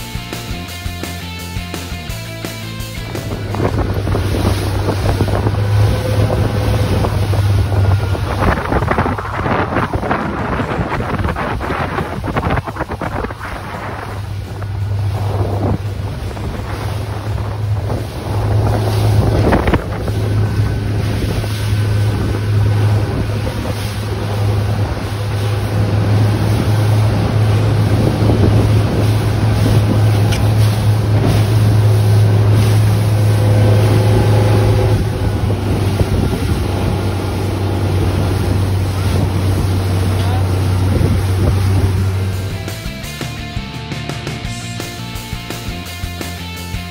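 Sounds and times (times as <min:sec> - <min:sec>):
boat engine droning: 0:00.0 - 0:46.9
churning water rushing: 0:00.0 - 0:46.9
wind buffeting microphone: 0:02.1 - 0:43.7.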